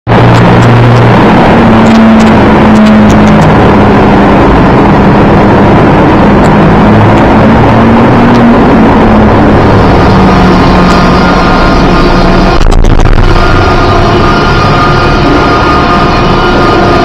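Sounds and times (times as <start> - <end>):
heavy rushing noise: 0.1 - 17.0
loud steady engine: 0.1 - 17.0.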